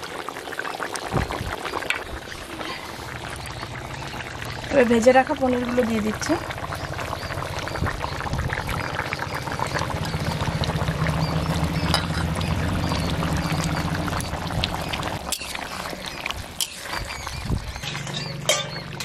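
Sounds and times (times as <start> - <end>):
curry bubbling in a pan: 0.0 - 18.9.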